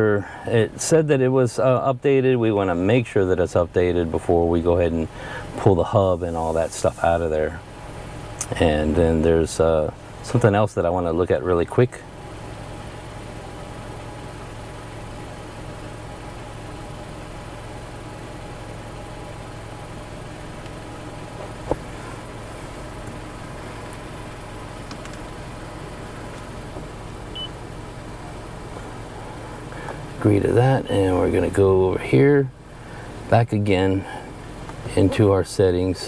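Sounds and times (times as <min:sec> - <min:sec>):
car engine idling hum: 0:00.0 - 0:36.0.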